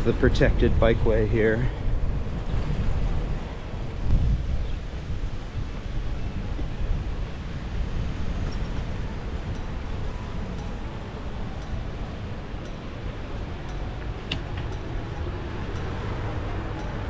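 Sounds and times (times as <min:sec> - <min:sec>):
street noise: 0:00.0 - 0:17.0
wind rumble on microphone: 0:00.0 - 0:17.0.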